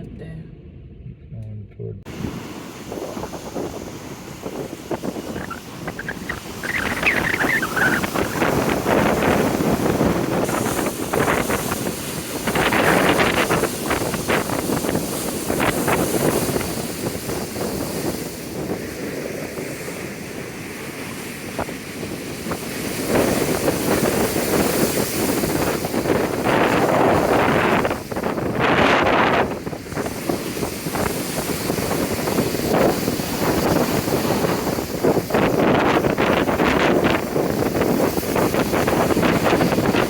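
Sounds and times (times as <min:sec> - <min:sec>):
wind buffeting microphone: 0:02.0 - 0:40.0
large waves breaking: 0:02.1 - 0:40.0.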